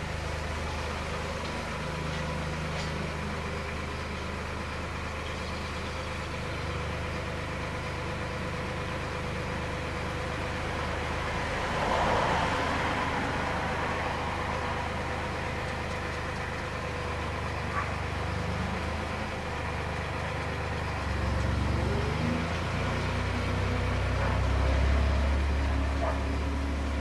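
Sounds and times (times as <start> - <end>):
distant engine hum: 0.0 - 27.0.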